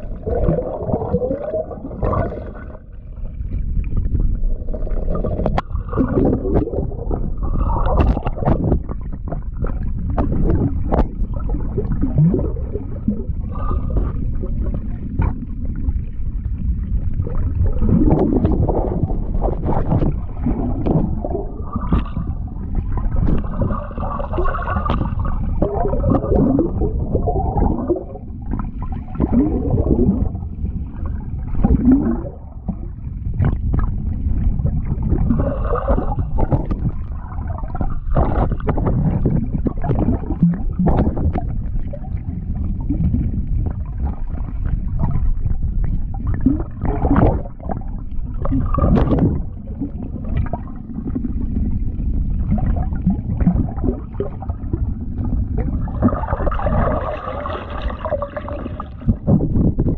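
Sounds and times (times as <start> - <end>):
air bubbles churning: 0.0 - 59.9
underwater gurgling and sloshing: 0.0 - 59.9.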